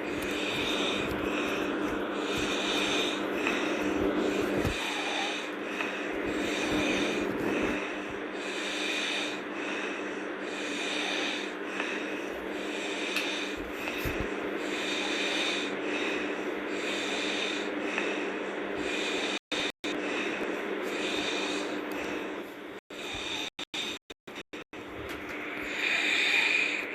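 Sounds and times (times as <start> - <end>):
person snoring hard: 0.0 - 24.5, 25.3 - 26.9.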